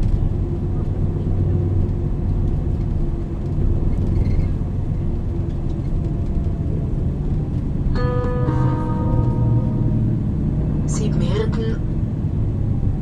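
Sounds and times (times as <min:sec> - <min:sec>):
bus diesel engine drone: 0:00.0 - 0:13.0
road rumble: 0:00.0 - 0:13.0.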